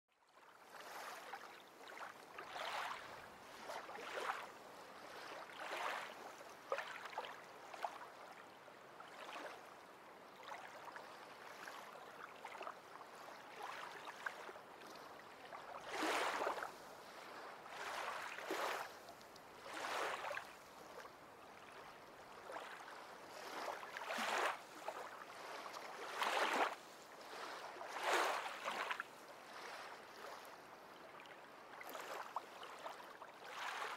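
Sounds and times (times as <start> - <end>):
water lapping and splashing: 0.3 - 33.9.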